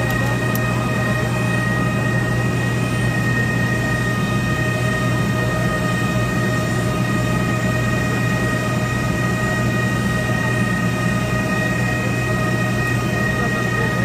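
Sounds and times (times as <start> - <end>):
machine drone with whining tones: 0.0 - 14.0.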